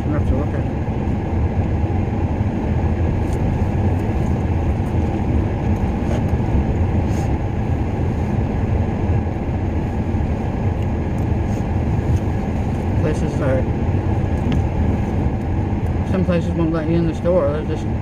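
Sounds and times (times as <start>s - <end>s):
car engine idling: 0.0s - 18.0s
car heater running: 0.0s - 18.0s.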